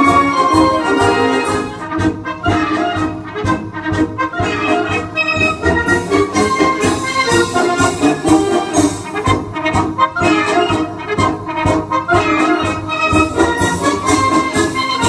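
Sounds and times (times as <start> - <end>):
ceremonial brass music: 0.0 - 15.0.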